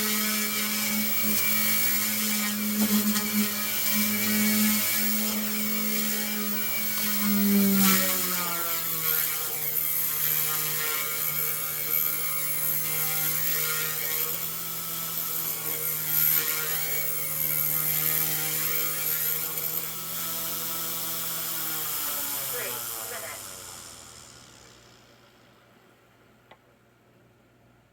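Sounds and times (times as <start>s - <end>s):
rc helicopter motor running: 0.0s - 25.5s.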